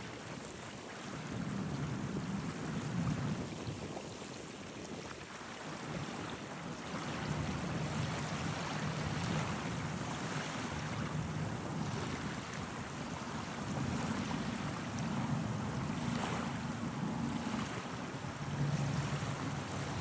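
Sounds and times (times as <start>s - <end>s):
small waves washing onto beach: 0.0s - 20.0s.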